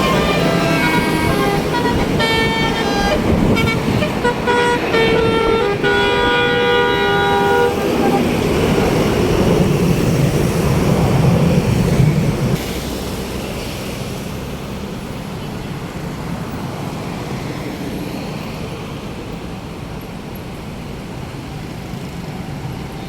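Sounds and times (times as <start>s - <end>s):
bus diesel engine passing: 0.0s - 23.0s
traffic noise: 0.0s - 23.0s.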